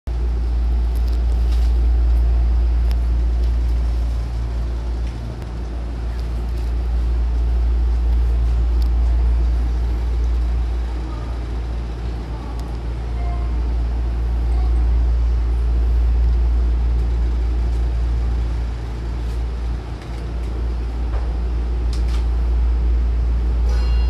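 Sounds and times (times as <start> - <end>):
train car hum and rumble: 0.0 - 24.0.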